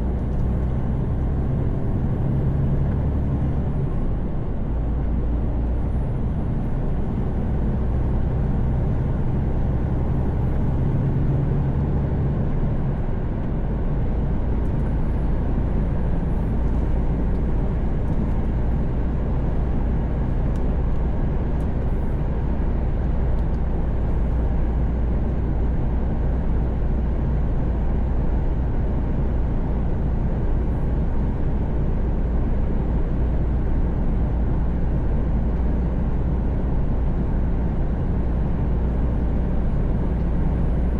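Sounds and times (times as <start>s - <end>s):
diesel engine low drone: 0.0s - 40.9s
road and tyre noise: 0.0s - 40.9s.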